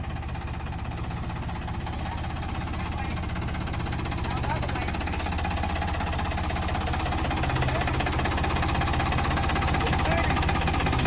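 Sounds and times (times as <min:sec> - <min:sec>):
tractor engine chugging: 0:00.0 - 0:11.0.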